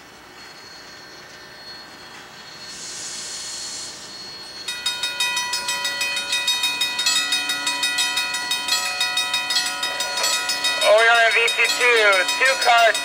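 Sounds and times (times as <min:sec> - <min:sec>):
railroad bell clanging: 0:00.0 - 0:13.0.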